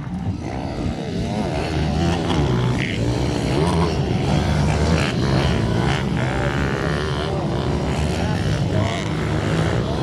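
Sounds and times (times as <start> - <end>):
minibike engines revving: 0.0 - 10.0.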